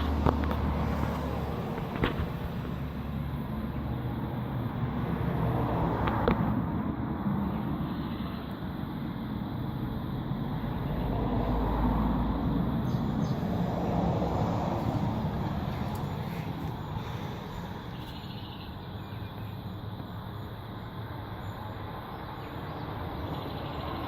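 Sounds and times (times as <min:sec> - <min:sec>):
low outdoor rumble: 0:00.0 - 0:22.2.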